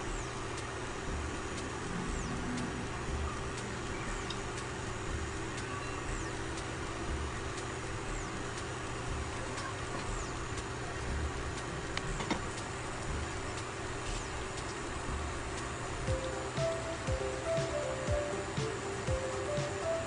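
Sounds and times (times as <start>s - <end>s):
light regular ticking: 0.0s - 20.0s.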